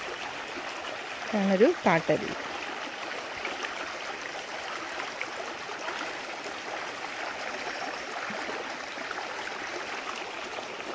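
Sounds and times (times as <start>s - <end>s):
stream rushing over rocks: 0.0s - 10.9s.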